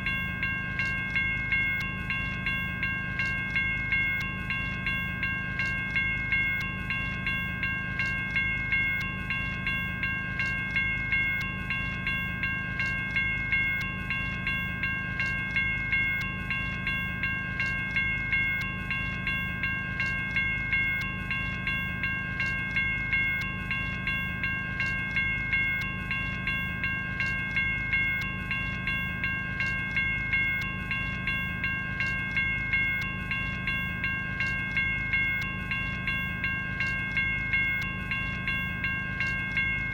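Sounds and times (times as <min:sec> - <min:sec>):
electronic crossing bell ringing: 0:00.0 - 0:39.9.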